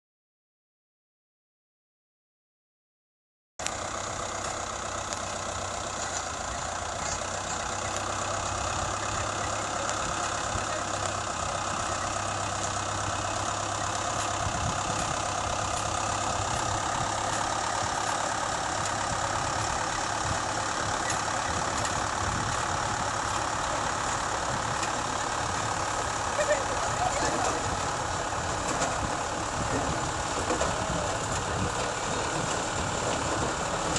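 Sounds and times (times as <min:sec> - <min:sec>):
harvester mechanical rattle: 0:03.6 - 0:33.9
tractor engine running: 0:03.6 - 0:33.9.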